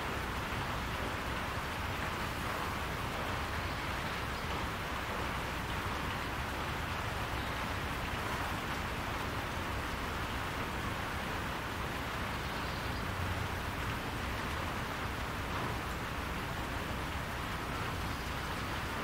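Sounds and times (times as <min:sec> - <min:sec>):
rain on a roof: 0:00.0 - 0:19.0.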